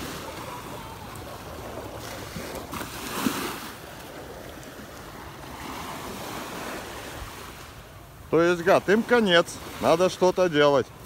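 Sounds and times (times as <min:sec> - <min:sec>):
small waves washing ashore: 0:00.0 - 0:11.0.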